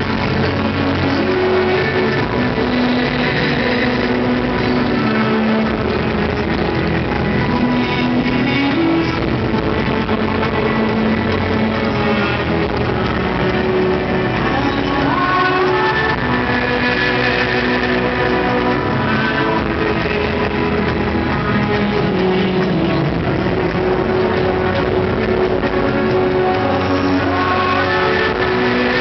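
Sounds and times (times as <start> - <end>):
loud steady music: 0.0 - 29.0.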